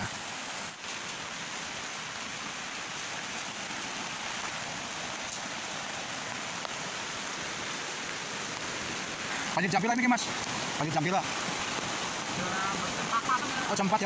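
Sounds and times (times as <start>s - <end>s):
rain falling: 0.0s - 14.0s
river rushing: 0.0s - 14.0s.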